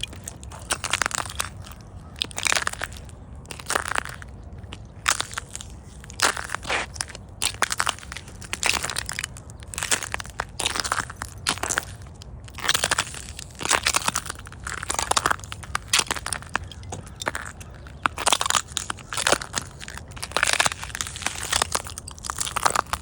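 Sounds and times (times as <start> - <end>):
footsteps crunching through ice: 0.0 - 23.0.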